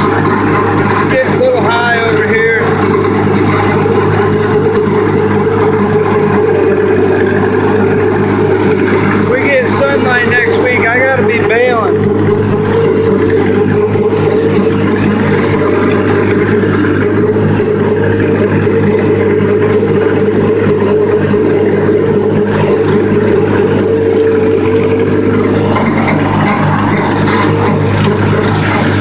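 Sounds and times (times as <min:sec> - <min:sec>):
rotary cutter cutting grass: 0:00.0 - 0:29.0
tractor engine running: 0:00.0 - 0:29.0.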